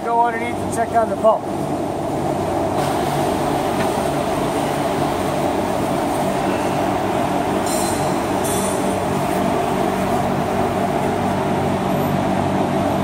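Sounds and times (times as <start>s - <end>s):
loud mechanical drone: 1.7s - 13.0s.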